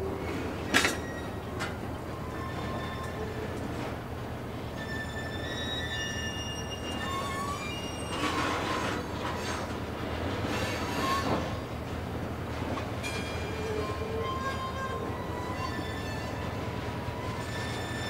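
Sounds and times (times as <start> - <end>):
low rumble of rolling boxcar: 0.0 - 18.0
steel wheels squealing on rails: 0.0 - 18.0.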